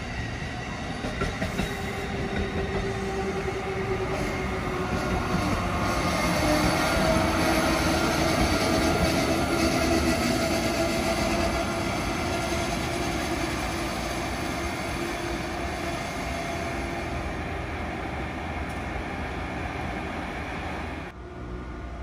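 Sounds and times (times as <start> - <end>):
electric locomotive humming: 0.0 - 22.0
train wheel and rail noise: 0.0 - 22.0.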